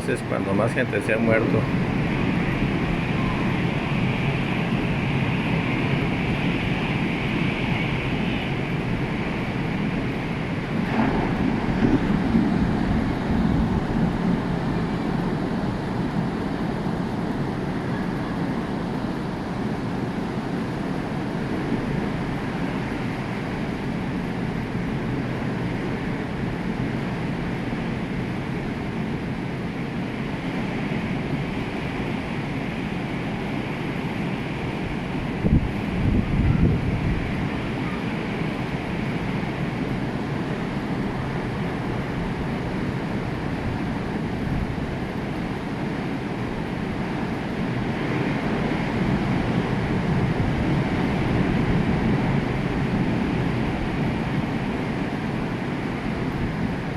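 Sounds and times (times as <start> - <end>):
heavy surf breaking: 0.0 - 56.9
wind buffeting microphone: 0.0 - 56.9.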